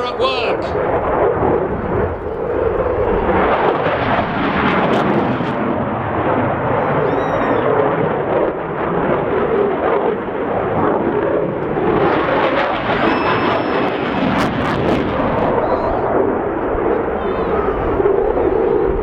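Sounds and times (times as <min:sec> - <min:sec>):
propeller plane engine roaring: 0:00.0 - 0:19.0.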